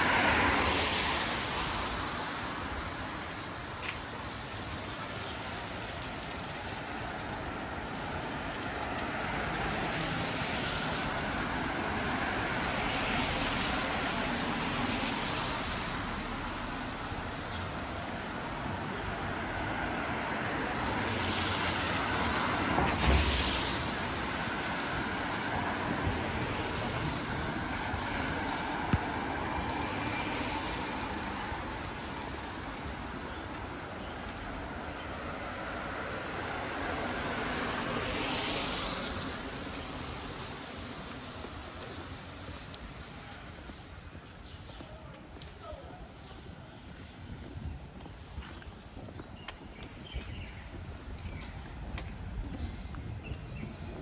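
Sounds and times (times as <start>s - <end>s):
cars passing on wet street: 0.0s - 54.0s.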